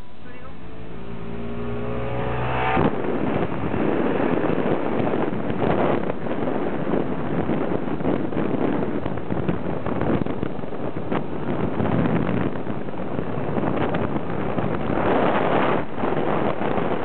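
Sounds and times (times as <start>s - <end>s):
car engine running: 0.0s - 15.0s
wind buffeting microphone: 0.0s - 17.0s.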